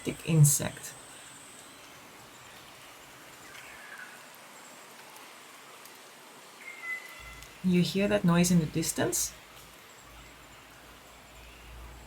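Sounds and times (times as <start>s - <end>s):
rainforest background hiss: 0.0s - 12.0s.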